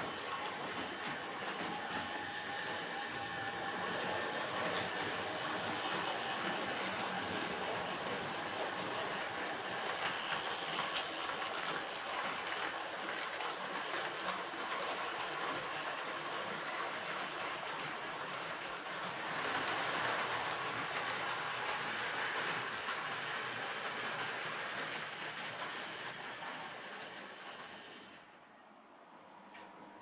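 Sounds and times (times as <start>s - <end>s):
model train motor whirring: 0.0s - 28.2s
wheels clicking over rail joints: 0.0s - 28.2s.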